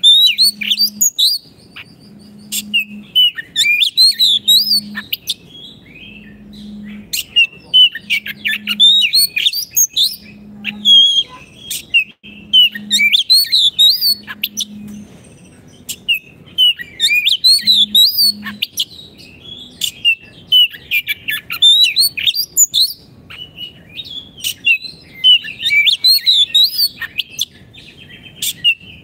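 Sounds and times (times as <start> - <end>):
bird singing whistles and chirps: 0.0 - 29.0.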